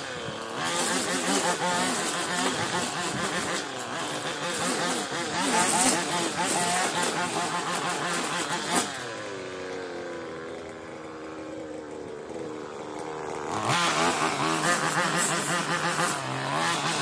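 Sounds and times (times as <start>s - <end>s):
strimmer engine revving and idling: 0.0s - 17.0s.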